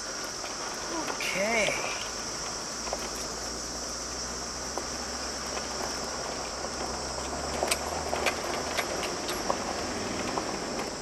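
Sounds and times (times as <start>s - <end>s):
diesel engine rumbling: 0.0s - 11.0s
insects chirring: 0.0s - 11.0s.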